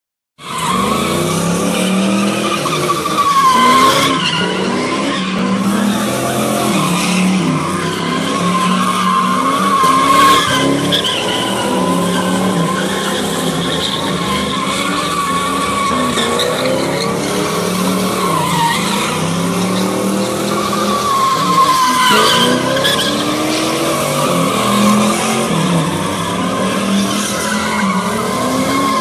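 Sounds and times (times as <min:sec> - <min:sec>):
car engines revving: 0:00.4 - 0:29.0
tyres squealing: 0:00.4 - 0:29.0.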